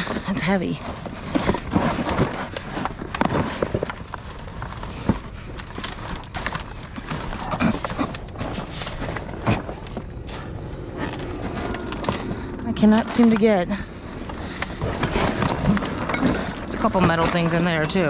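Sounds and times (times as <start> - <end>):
hard objects clattering: 0.0 - 18.0
rustling: 0.0 - 18.0.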